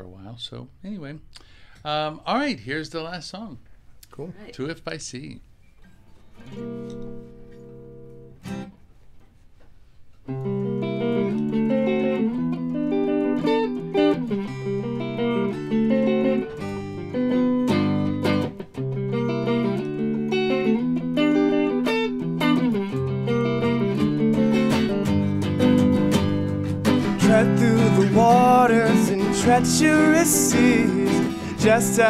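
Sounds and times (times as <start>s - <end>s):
acoustic and electric guitars playing: 5.5s - 32.0s.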